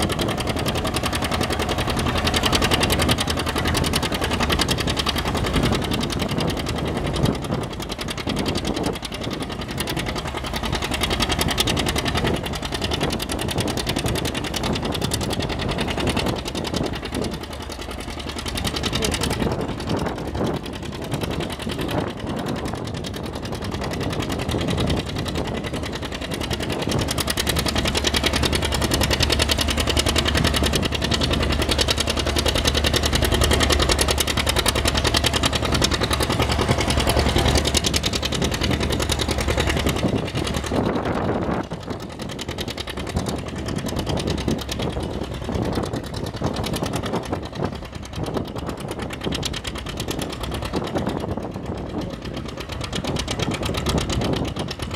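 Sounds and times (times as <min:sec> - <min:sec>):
tractor engine under load: 0:00.0 - 0:54.9.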